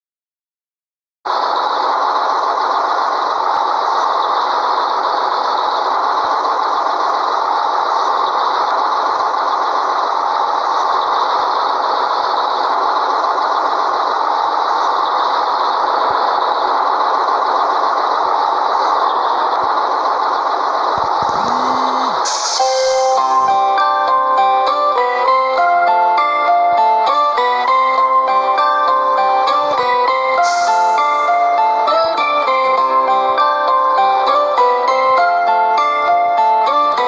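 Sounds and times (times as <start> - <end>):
truck diesel engine running: 1.3 - 35.0.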